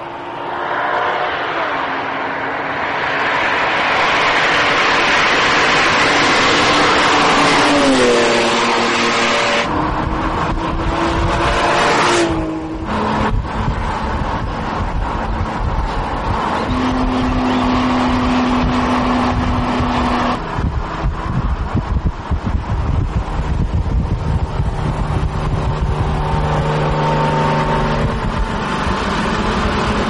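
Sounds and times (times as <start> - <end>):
car engine running hard: 0.0 - 30.0.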